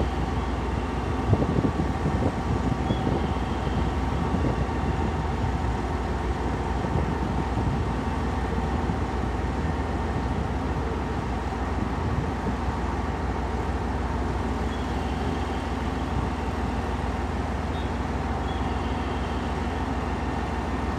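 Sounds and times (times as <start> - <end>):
diesel railcar engine idling: 0.0 - 20.9.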